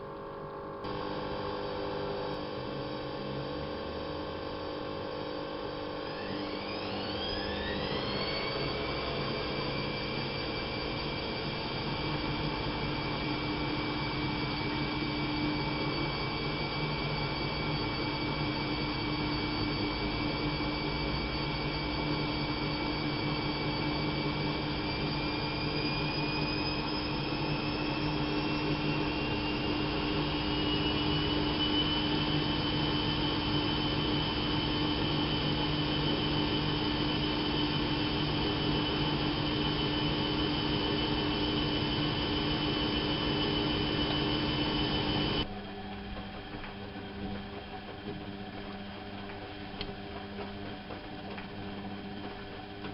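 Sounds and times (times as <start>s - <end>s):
washing machine hum and whine: 0.0s - 52.9s.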